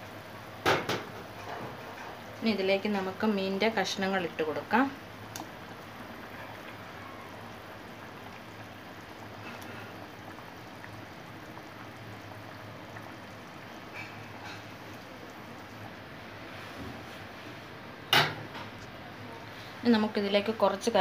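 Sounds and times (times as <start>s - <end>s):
curry bubbling in pot: 0.0s - 21.0s.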